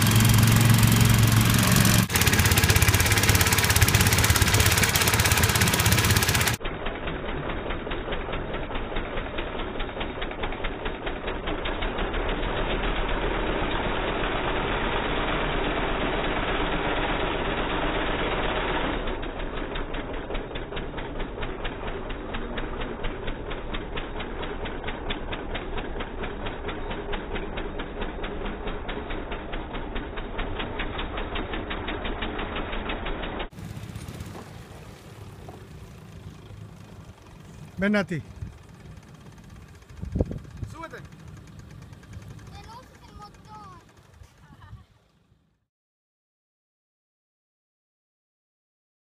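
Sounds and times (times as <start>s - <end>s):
small boat engine running: 0.0s - 45.6s.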